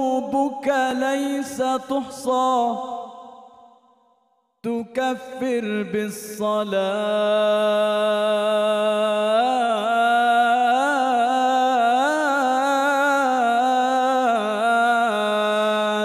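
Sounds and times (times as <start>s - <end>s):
man chanting devotional song: 0.0s - 3.5s, 4.6s - 16.0s.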